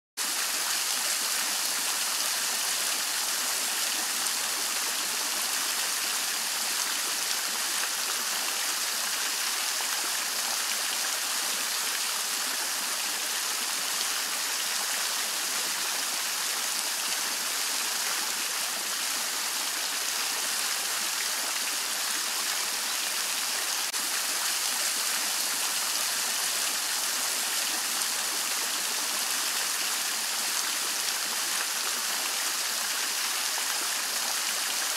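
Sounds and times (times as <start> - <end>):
fountain water splashing: 0.2 - 34.9.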